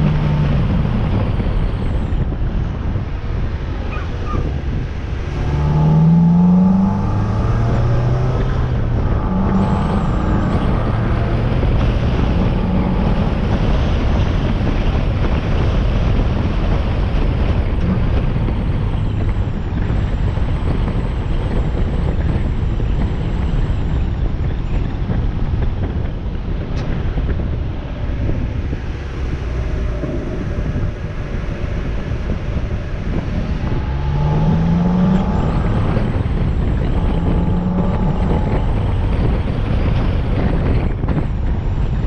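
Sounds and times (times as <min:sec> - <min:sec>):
car engine revving: 0:00.0 - 0:42.0
wind and road noise: 0:00.0 - 0:42.0.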